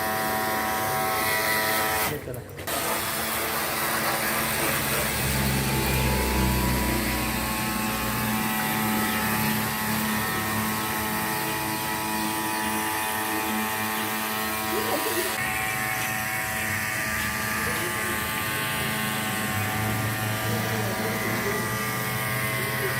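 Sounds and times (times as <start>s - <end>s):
water pump motor humming: 0.0s - 22.9s.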